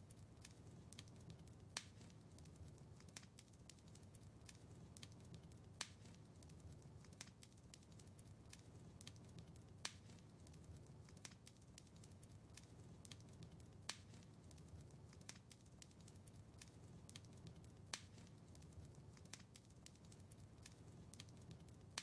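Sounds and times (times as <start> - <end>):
fire pops and snaps: 0.0 - 22.0
low fire rumble: 0.0 - 22.0
wood fire crackling: 0.0 - 22.0.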